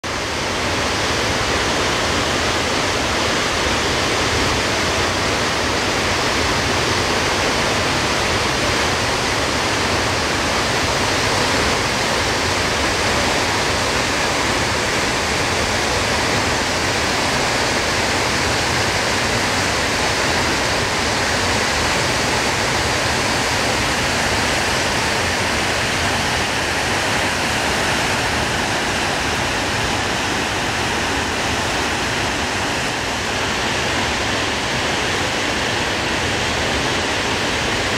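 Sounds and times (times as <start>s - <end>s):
waterfall crashing onto rocks: 0.0s - 37.9s.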